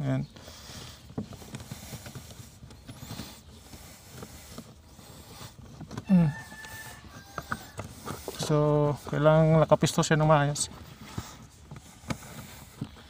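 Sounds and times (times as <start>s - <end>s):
filter scraping and rustling: 0.0s - 13.0s.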